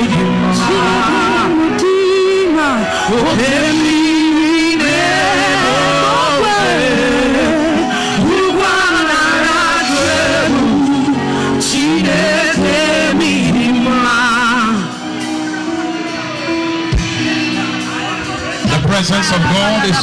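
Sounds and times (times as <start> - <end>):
held backing chords: 0.0 - 20.0.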